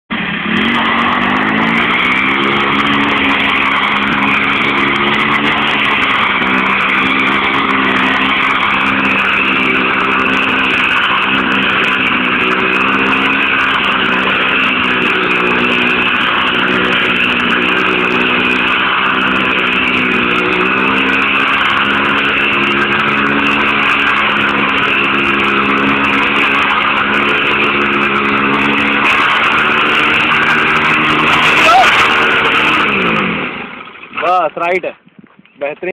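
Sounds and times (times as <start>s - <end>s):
chainsaw engine buzzing: 0.1s - 34.8s.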